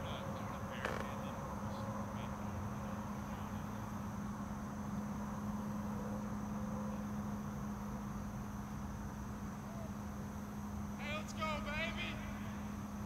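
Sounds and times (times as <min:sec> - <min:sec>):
faint high buzz: 0:00.0 - 0:13.0
outdoor background hum: 0:00.0 - 0:13.0.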